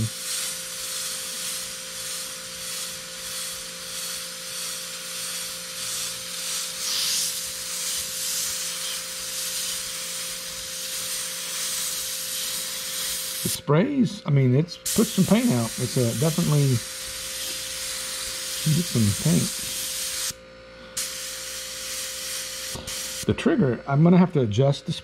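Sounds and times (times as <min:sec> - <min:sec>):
airbrush hissing: 0:00.0 - 0:13.6, 0:14.8 - 0:20.4, 0:21.0 - 0:23.3
steady low hum: 0:00.0 - 0:25.0.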